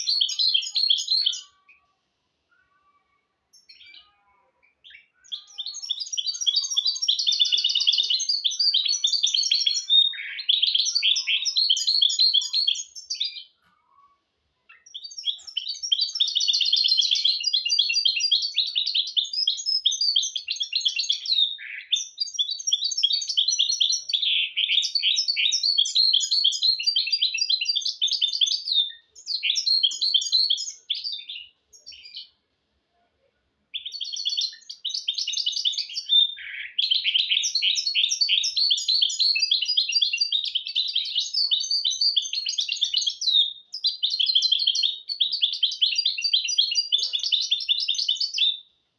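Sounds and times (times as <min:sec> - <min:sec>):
finch twittering song: 0:00.0 - 0:01.9, 0:03.5 - 0:13.6, 0:14.7 - 0:32.4, 0:33.7 - 0:48.8.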